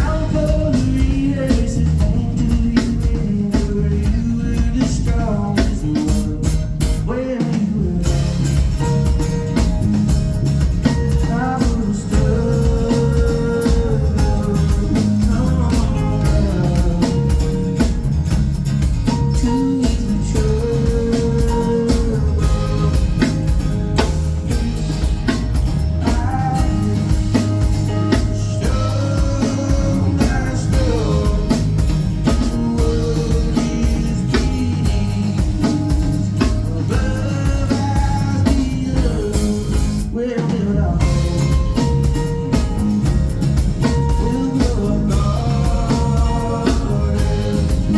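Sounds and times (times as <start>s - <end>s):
person singing lead vocal: 0.0s - 9.6s, 10.9s - 18.1s, 19.1s - 24.6s, 25.7s - 42.7s, 43.8s - 47.9s
live band playing: 0.0s - 47.9s.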